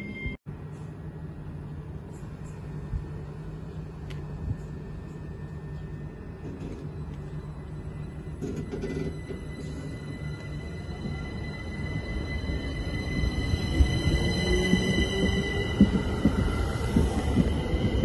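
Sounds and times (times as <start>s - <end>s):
train humming and rumbling: 0.0s - 18.0s.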